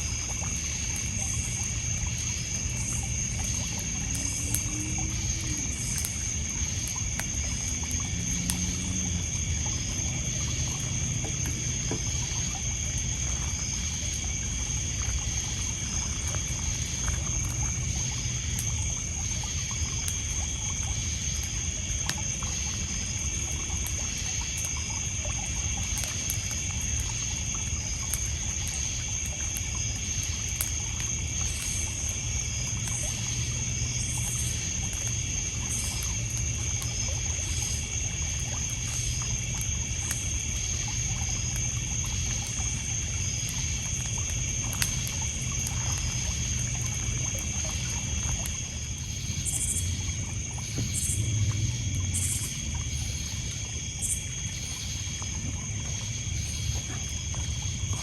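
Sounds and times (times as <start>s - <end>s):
campfire crackling: 0.0s - 58.0s
insects trilling: 0.0s - 58.0s
water lapping on pebbles: 0.0s - 58.0s.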